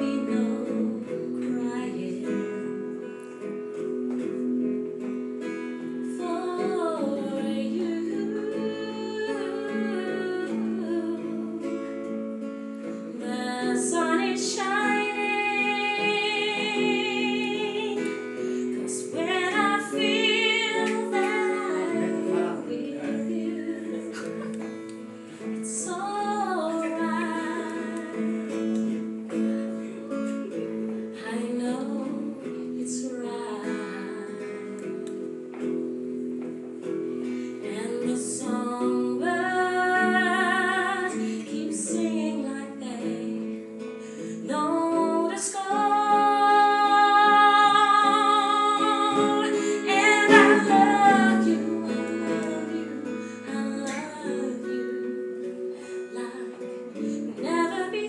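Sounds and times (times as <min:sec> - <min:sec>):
woman singing slow song: 0:00.0 - 0:04.2, 0:05.7 - 0:35.8, 0:37.4 - 0:58.0
acoustic guitar: 0:00.0 - 0:58.0.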